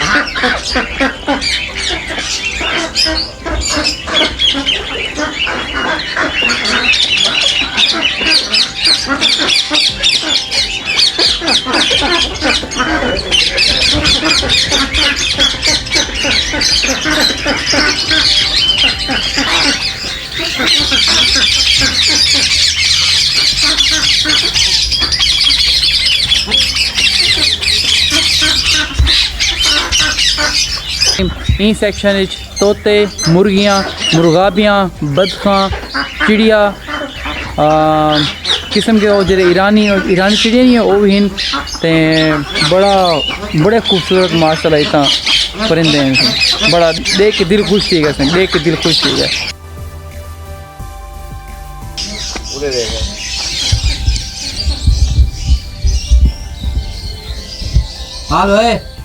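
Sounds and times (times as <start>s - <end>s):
flock of birds squawking: 0.0s - 59.0s.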